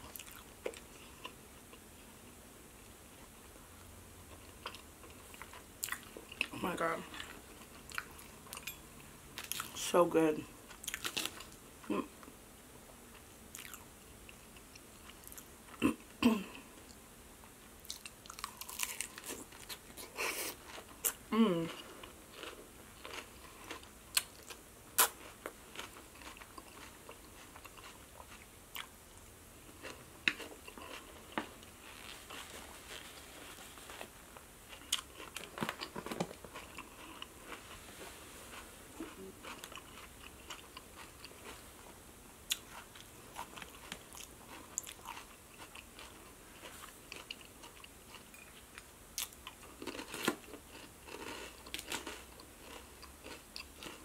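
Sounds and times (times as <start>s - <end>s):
person chewing: 0.0s - 1.8s, 4.3s - 8.8s, 10.7s - 11.6s, 13.1s - 16.1s, 17.8s - 41.9s, 42.5s - 54.0s.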